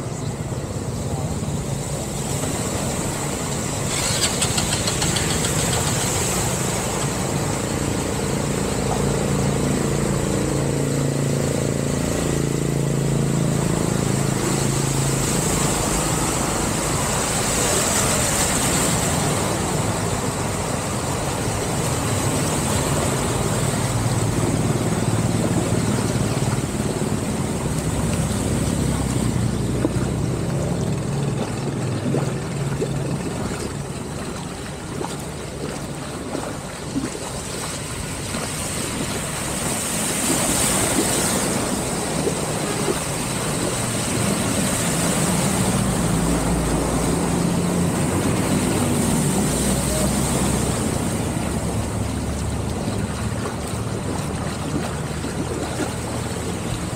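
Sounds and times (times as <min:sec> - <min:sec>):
motorbike and car engines: 0:00.0 - 0:56.9
water swishing under wheels: 0:00.0 - 0:56.9.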